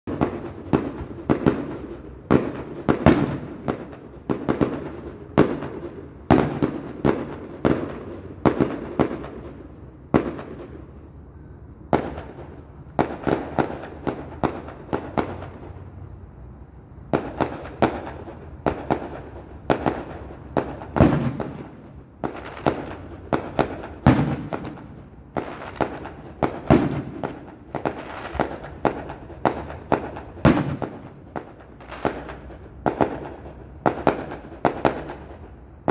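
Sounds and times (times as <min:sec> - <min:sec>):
fireworks bangs echoing: 0:00.1 - 0:10.9, 0:11.9 - 0:15.8, 0:17.1 - 0:35.9.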